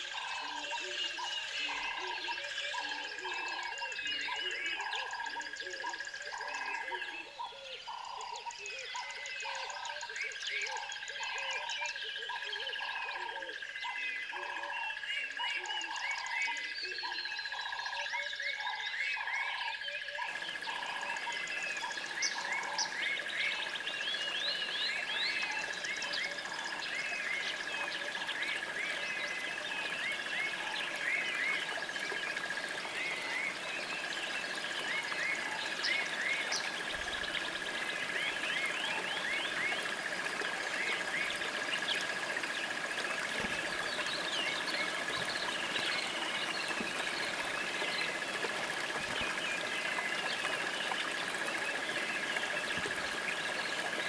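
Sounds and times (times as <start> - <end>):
birds chirping: 0.0 - 54.0
frogs calling: 0.0 - 54.0.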